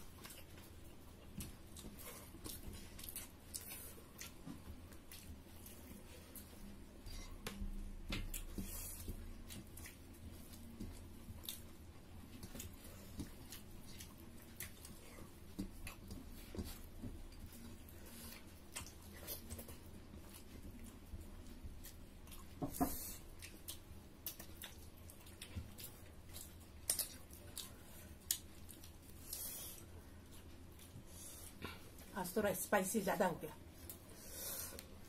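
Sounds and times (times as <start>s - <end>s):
people chewing and lip-smacking: 0.0s - 32.1s.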